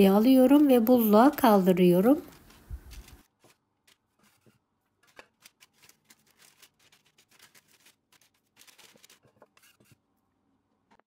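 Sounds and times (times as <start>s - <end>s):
dough clicking and rustling on paper: 0.5s - 9.9s.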